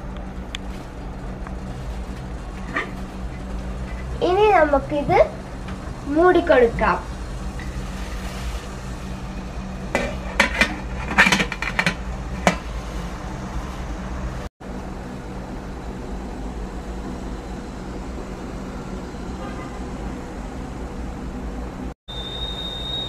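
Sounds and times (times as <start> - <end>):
gas burner rushing: 0.0 - 23.0.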